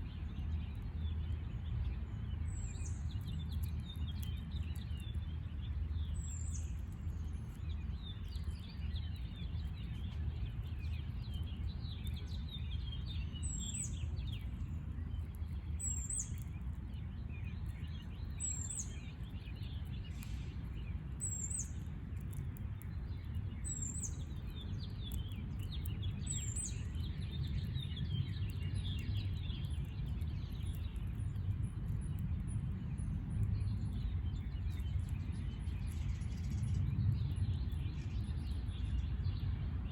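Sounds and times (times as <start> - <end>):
low background rumble: 0.1 - 39.9.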